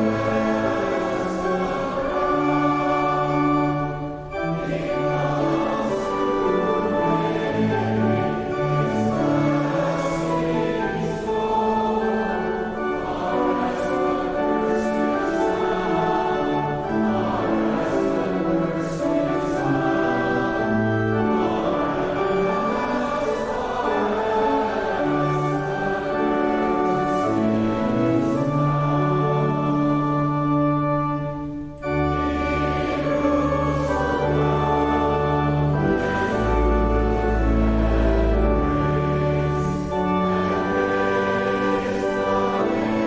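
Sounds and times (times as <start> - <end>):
congregation singing a hymn: 0.0 - 43.0
sustained instrumental accompaniment: 0.0 - 43.0.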